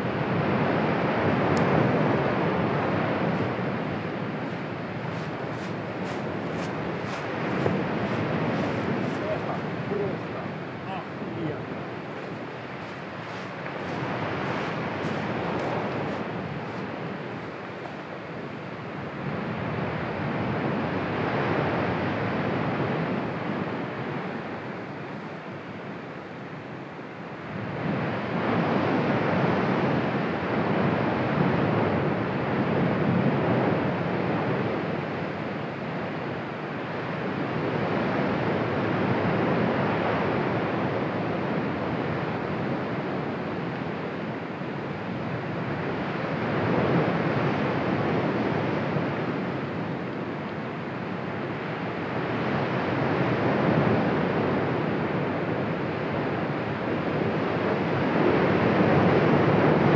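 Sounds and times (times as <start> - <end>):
volcano erupting with rushing noise: 0.0 - 59.9.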